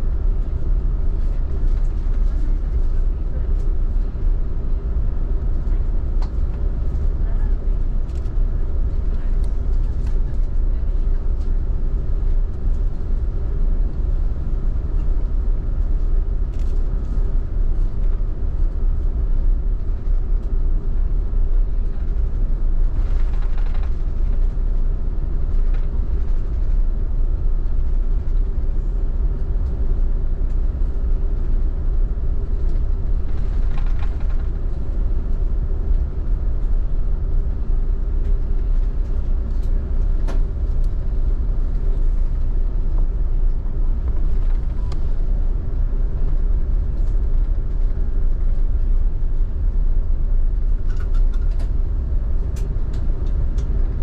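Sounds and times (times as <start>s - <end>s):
airliner engines rumbling in cabin: 0.0s - 54.0s.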